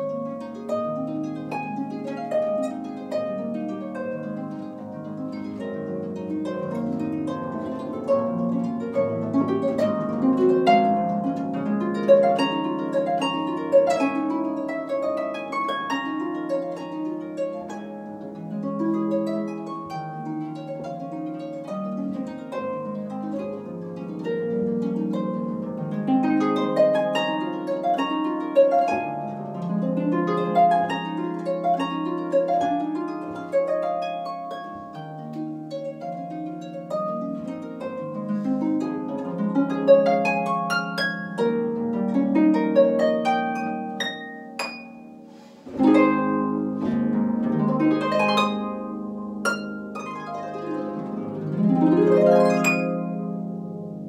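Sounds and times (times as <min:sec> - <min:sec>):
harp playing classical music: 0:00.0 - 0:54.0.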